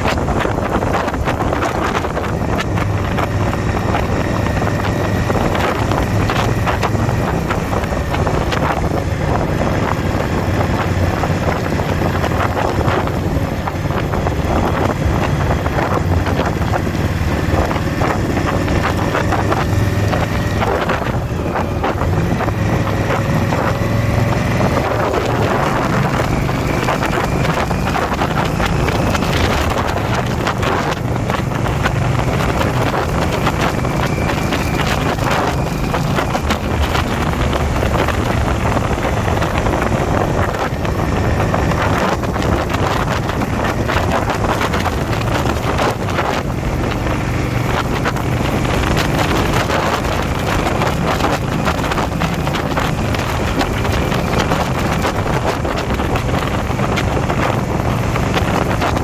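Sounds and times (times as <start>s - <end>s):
motorcycle engine drone: 0.0s - 59.0s
wind buffeting microphone: 0.0s - 59.0s.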